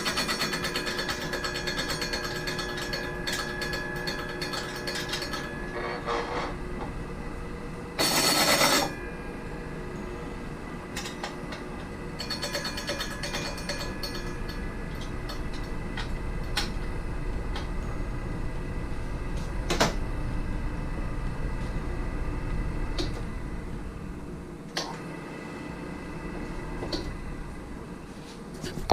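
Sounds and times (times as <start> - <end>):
steady machine hum: 0.0 - 28.9.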